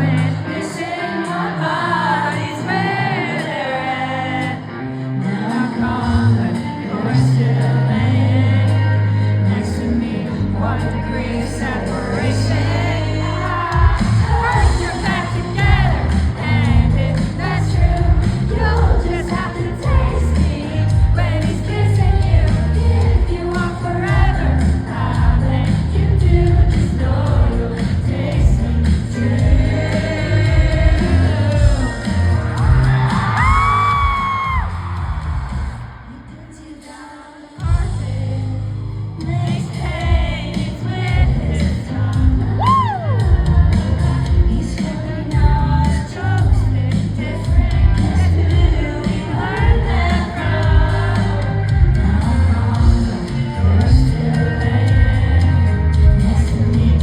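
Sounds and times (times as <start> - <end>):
woman singing: 0.0 - 34.7, 36.1 - 38.6, 39.2 - 51.8
live band with heavy bass: 5.3 - 36.0, 37.6 - 57.0.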